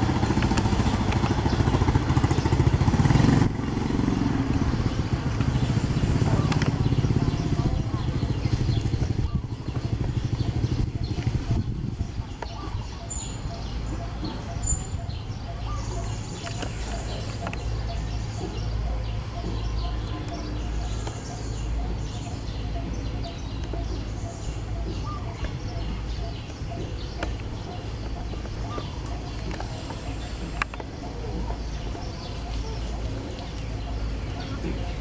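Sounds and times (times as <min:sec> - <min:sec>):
steady low rumble: 0:04.2 - 0:35.0
high bird chirps: 0:04.8 - 0:35.0.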